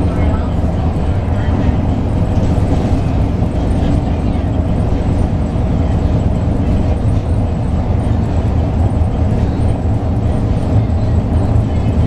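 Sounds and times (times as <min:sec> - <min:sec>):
diesel bus engine drone: 0:00.0 - 0:12.0
road and tyre noise: 0:00.0 - 0:12.0.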